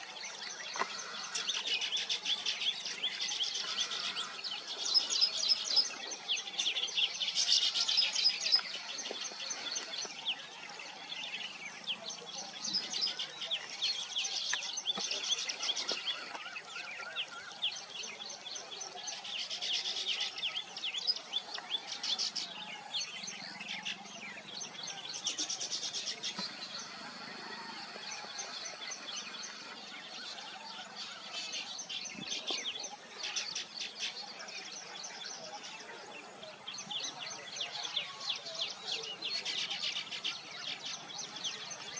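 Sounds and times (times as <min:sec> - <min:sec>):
weaver birds chattering: 0:00.0 - 0:41.9.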